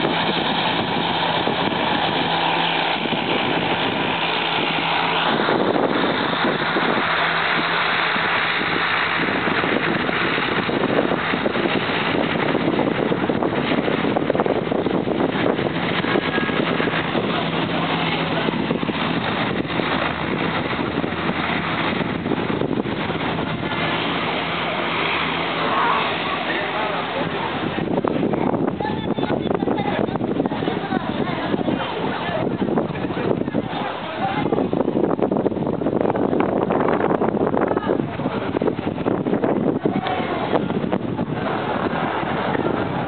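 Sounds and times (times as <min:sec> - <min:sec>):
turboprop engines drone: 0:00.0 - 0:43.0.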